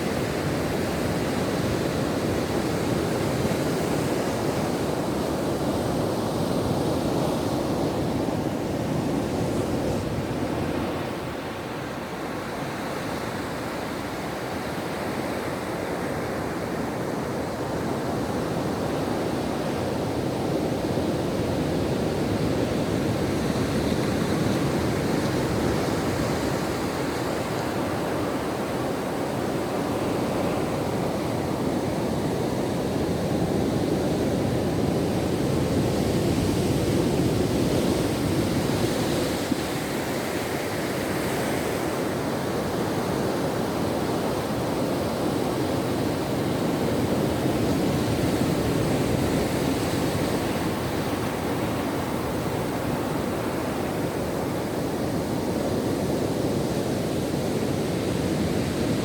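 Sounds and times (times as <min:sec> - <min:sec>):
ocean waves on shore: 0:00.0 - 0:59.0.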